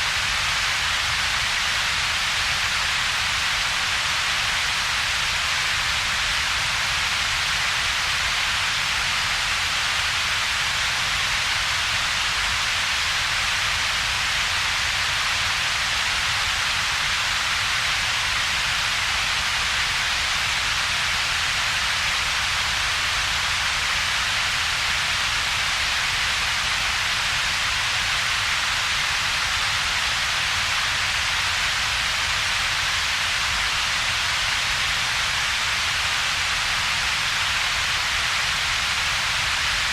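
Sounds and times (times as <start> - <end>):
broad synthetic hiss: 0.0 - 39.9.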